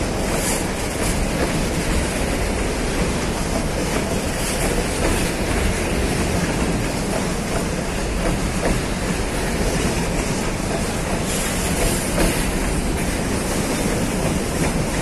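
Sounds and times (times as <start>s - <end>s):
steel wheels rumbling on rails: 0.0s - 15.0s.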